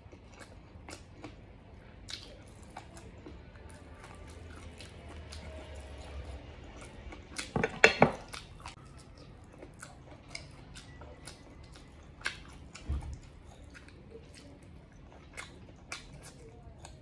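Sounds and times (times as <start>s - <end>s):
wet chewing and mouth smacks: 0.0s - 7.6s, 8.2s - 17.0s.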